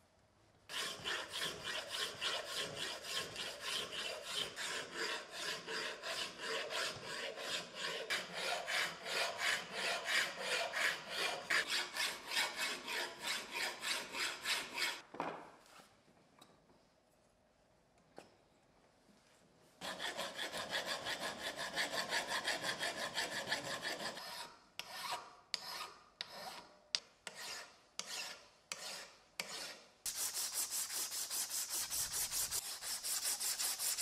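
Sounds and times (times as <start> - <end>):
hand file rasping on brass: 0.7 - 15.0, 19.8 - 26.7, 27.3 - 34.0.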